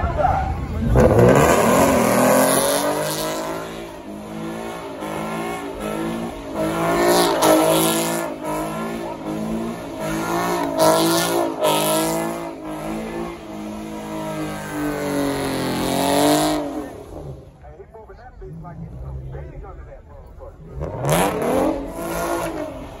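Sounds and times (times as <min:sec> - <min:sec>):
car engine revving: 0:00.0 - 0:17.6, 0:18.3 - 0:23.0.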